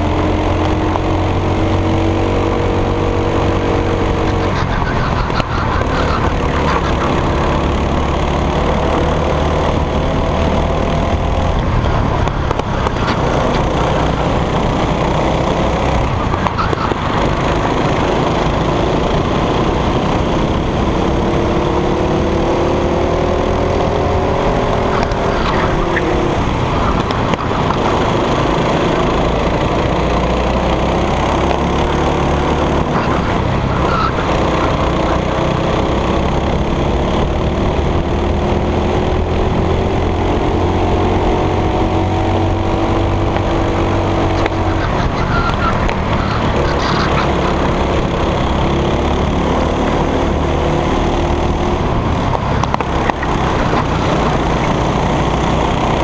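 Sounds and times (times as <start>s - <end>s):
constant rush of noise: 0.0s - 56.0s
go-kart engine revving: 0.0s - 56.0s.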